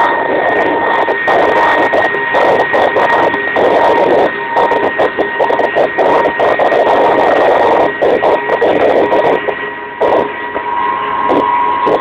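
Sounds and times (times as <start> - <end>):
helicopter engines and rotors: 0.0 - 12.0
high whine: 0.0 - 12.0.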